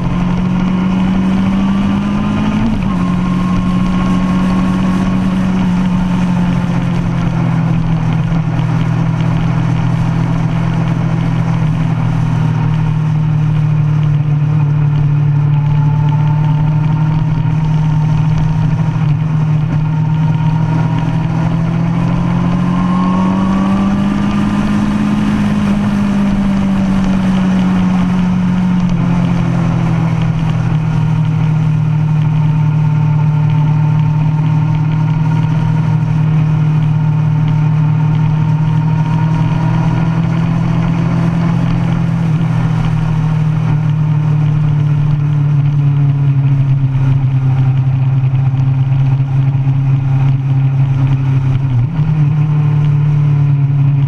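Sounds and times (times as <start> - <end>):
motorcycle engine running hard: 0.0 - 54.0.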